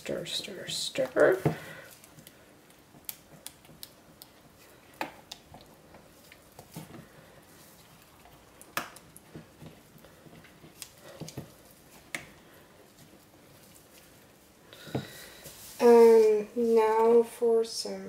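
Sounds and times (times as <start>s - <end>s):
wet squishing of batter: 0.0s - 15.7s.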